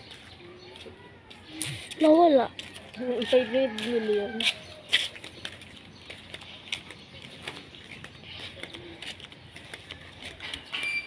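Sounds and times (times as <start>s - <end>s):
footsteps on paved street: 0.0s - 11.0s.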